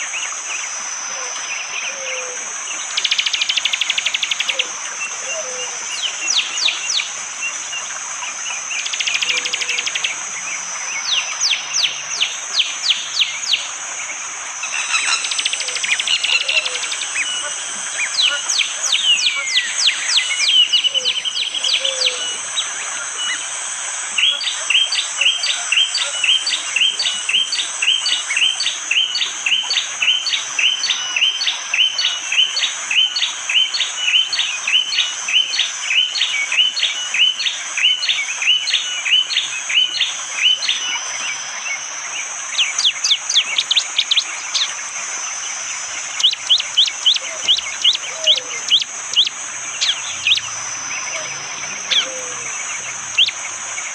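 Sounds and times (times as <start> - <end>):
bird calling with chip notes: 8.6 - 23.5, 24.1 - 53.9.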